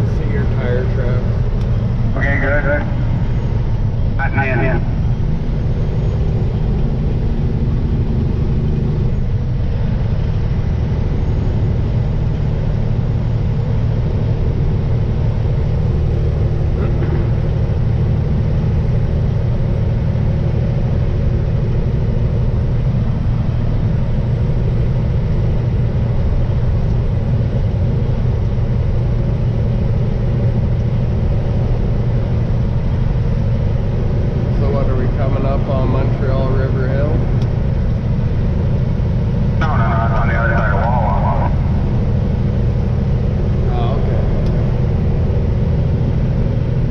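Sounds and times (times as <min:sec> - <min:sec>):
constant low hum: 0:00.0 - 0:46.9
vehicle engine drone: 0:00.0 - 0:46.9.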